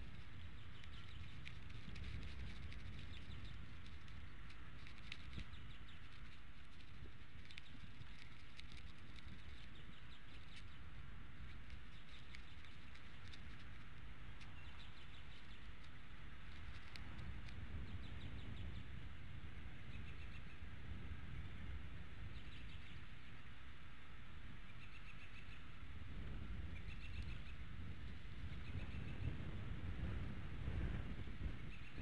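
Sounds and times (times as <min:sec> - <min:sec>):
birds chirping trills: 0:00.0 - 0:23.7, 0:24.4 - 0:25.9, 0:26.5 - 0:29.8, 0:31.0 - 0:32.0
wind rumbling on microphone: 0:00.0 - 0:32.0.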